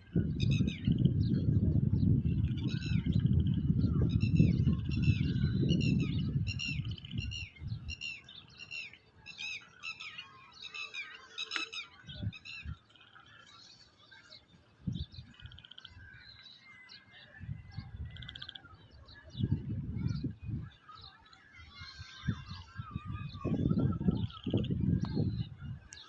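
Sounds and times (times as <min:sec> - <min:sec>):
wind buffeting microphone: 0:00.0 - 0:09.9, 0:11.7 - 0:12.9, 0:14.4 - 0:16.5, 0:17.1 - 0:26.0.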